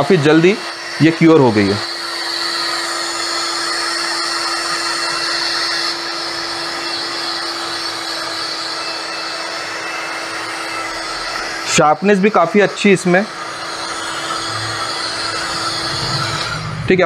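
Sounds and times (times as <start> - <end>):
heat gun blowing hot air: 0.0 - 16.9.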